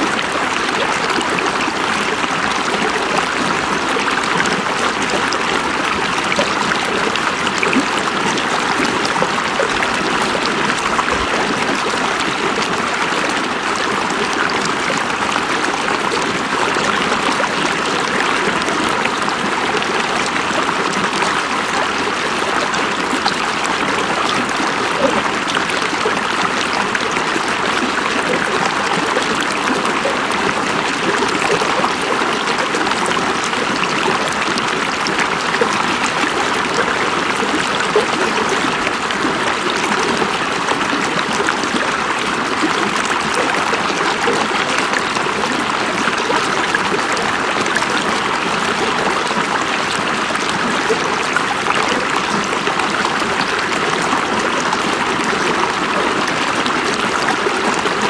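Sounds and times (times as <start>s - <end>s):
river water rushing over stones: 0.0s - 58.0s.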